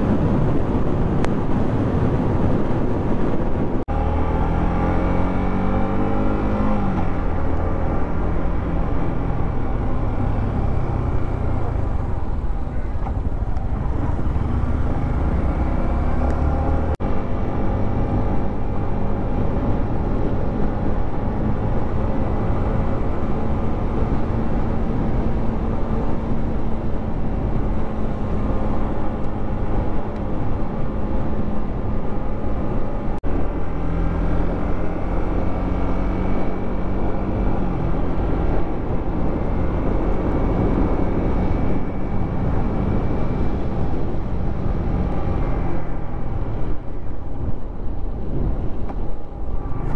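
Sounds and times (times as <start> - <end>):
motorcycle engine cruising: 0.0 - 49.9
wind noise: 0.0 - 49.9.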